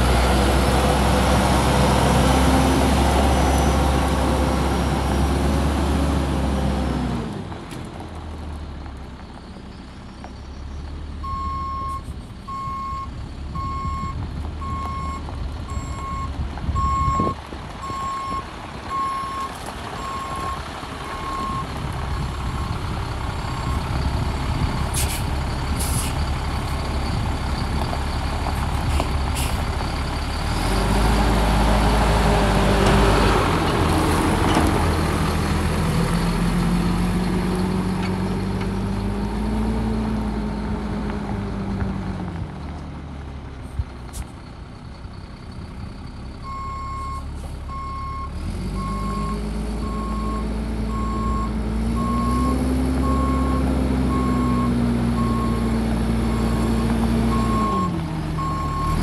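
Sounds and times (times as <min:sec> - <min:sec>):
diesel truck engine: 0:00.0 - 0:59.0.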